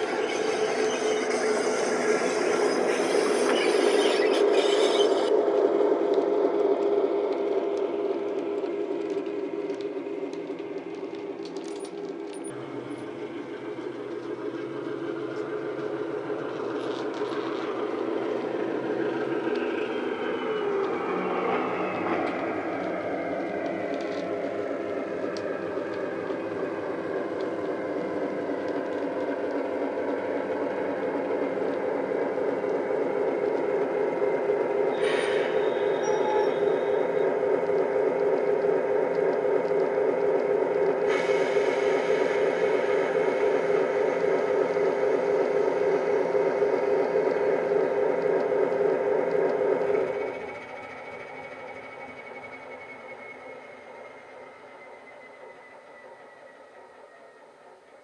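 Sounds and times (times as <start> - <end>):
model locomotive sound from speaker: 0.0 - 58.0.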